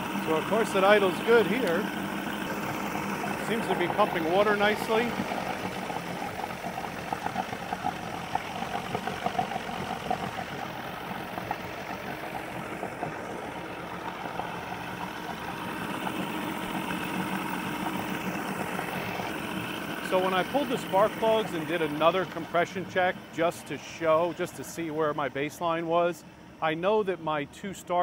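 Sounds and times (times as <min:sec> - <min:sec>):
outboard motor idling: 0:00.0 - 0:28.0.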